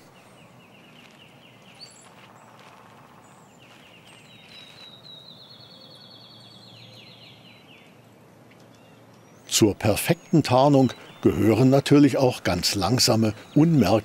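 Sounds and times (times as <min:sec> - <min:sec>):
small birds trilling: 0:00.0 - 0:14.0.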